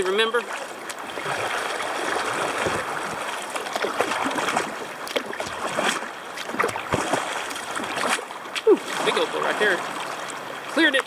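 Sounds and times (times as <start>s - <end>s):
paddle splashes: 0.0s - 11.0s
river water rushing and gurgling: 0.0s - 11.0s.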